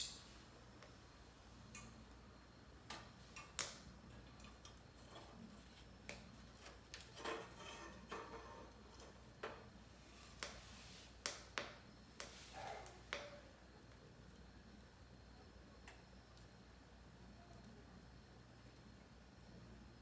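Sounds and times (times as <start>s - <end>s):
wood fire crackling: 0.0s - 17.8s.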